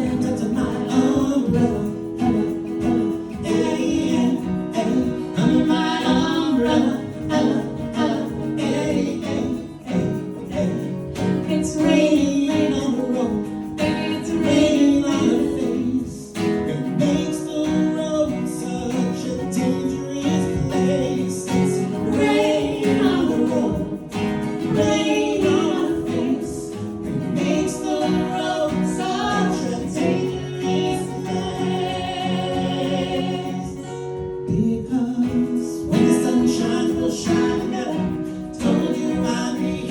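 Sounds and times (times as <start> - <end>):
instrumental accompaniment: 0.0 - 39.9
vocal ensemble singing in harmony: 0.0 - 39.9.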